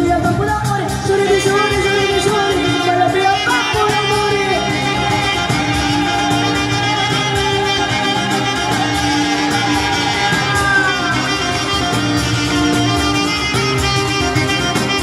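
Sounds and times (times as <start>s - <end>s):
folk band playing: 0.0s - 15.0s
violin melody: 2.0s - 15.0s.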